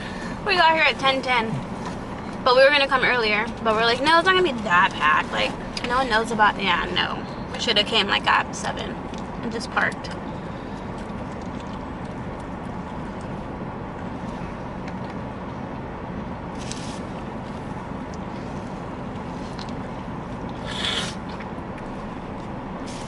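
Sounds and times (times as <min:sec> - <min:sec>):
car interior rumble: 0:00.0 - 0:23.0.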